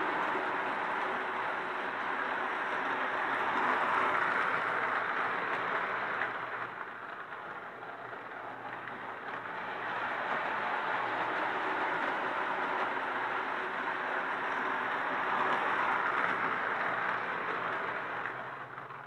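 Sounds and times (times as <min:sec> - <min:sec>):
toy train rolling on track: 0:00.0 - 0:19.0.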